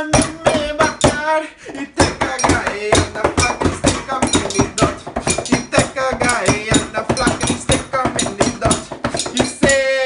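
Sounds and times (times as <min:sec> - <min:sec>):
person singing: 0:00.0 - 0:10.0
rhythmic knocking on furniture: 0:00.0 - 0:10.0.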